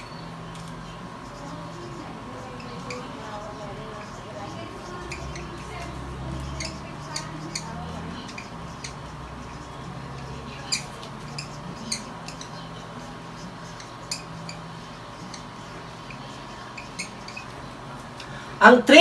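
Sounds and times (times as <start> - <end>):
marker pen squeaking: 0.0 - 17.7
faint steady hum: 0.0 - 19.0.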